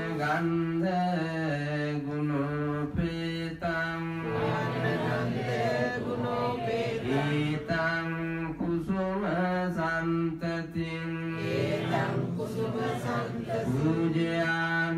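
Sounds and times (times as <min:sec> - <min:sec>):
man chanting: 0:00.0 - 0:04.9, 0:07.0 - 0:14.9.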